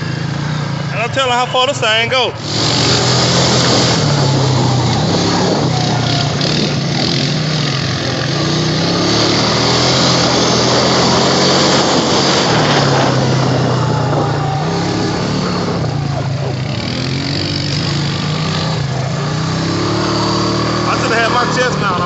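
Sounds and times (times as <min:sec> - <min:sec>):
atv engine running: 0:00.0 - 0:22.0
rushing riding noise: 0:00.0 - 0:22.0.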